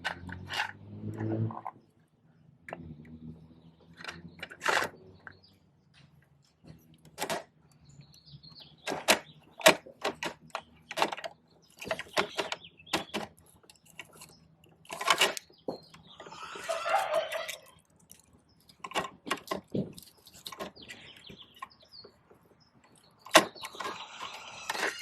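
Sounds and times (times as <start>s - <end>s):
plastic toy truck rattling: 0.0s - 1.8s, 3.8s - 5.4s, 6.8s - 7.6s, 8.8s - 25.0s.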